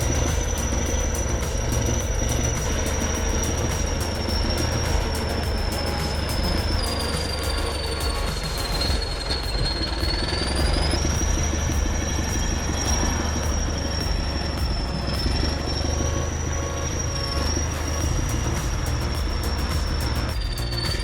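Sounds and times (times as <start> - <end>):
diesel engine rumble: 0.0 - 21.0
high continuous squeal: 0.0 - 21.0
track ticking and clanking: 0.0 - 21.0.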